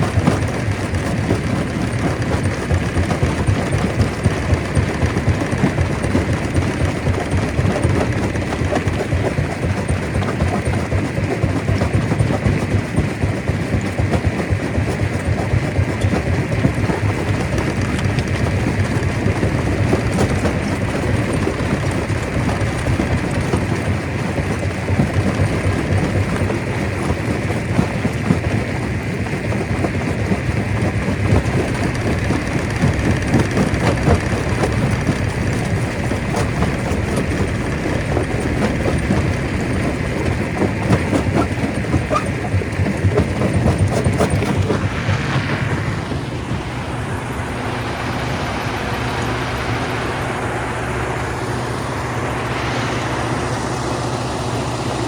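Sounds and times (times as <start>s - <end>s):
rock clattering and grinding: 0.0s - 45.7s
stone crusher rumble: 0.0s - 55.0s.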